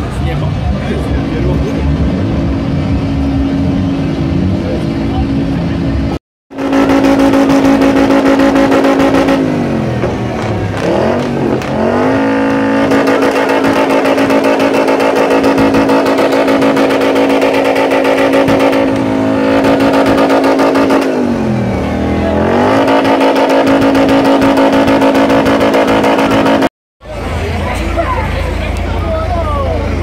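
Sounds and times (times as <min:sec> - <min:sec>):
truck engine revving: 0:00.0 - 0:27.6.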